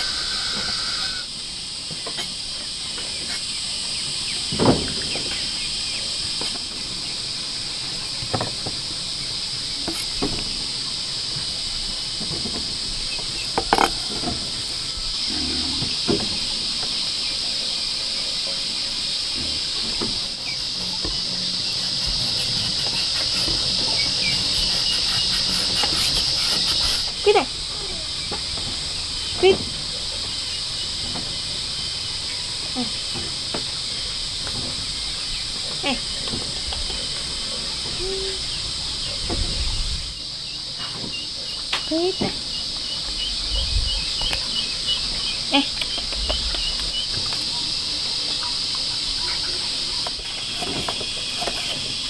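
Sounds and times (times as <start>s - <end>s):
steady high hiss: 0.0s - 52.0s.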